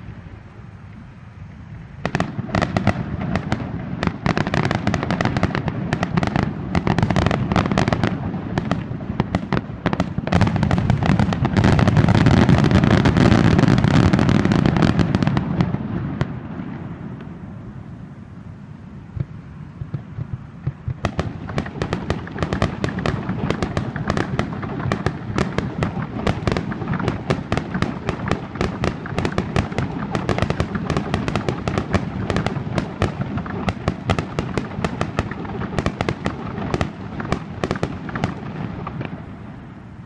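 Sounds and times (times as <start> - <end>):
fireworks bursting: 2.0 - 18.3, 19.1 - 39.8.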